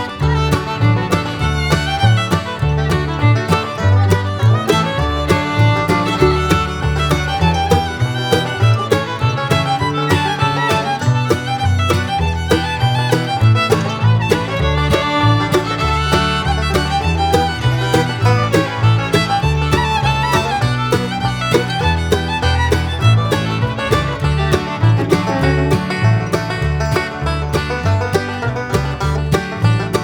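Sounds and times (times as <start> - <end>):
fiddle melody: 0.0 - 30.0
plucked strings: 0.0 - 30.0
walking bass: 0.0 - 30.0.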